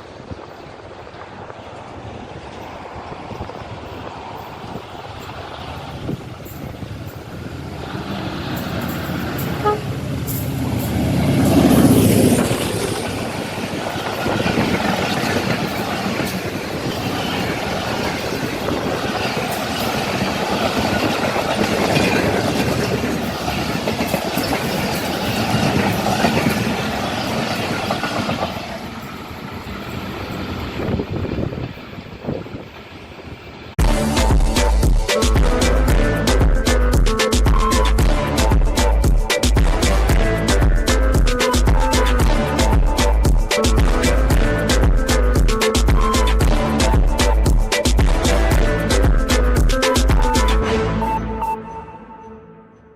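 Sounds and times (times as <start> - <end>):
train coaches rumbling on rails: 0.0 - 51.2
diesel locomotive engine: 0.0 - 52.3.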